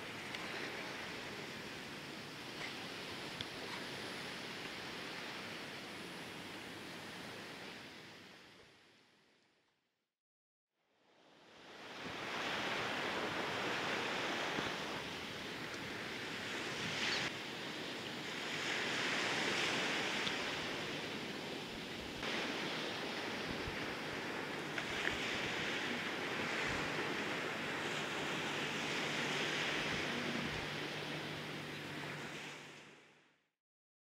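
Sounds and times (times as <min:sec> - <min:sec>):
small waves washing on shore: 0:00.0 - 0:08.6, 0:11.2 - 0:33.0
wind: 0:00.0 - 0:09.6, 0:10.9 - 0:33.4.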